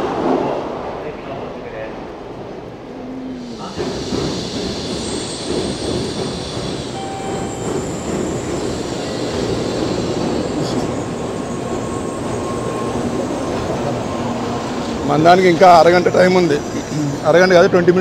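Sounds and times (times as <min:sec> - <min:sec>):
train rushing past: 0:00.0 - 0:18.0.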